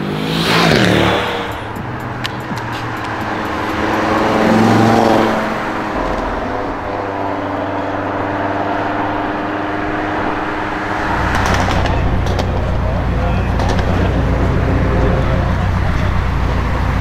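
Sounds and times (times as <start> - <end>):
car engine accelerating past: 0.0 - 16.3
engine rumbling at low revs: 0.0 - 17.0.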